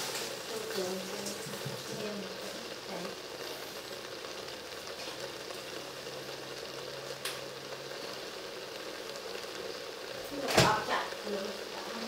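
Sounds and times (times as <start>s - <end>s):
spice paste sizzling in oil: 0.0s - 12.0s.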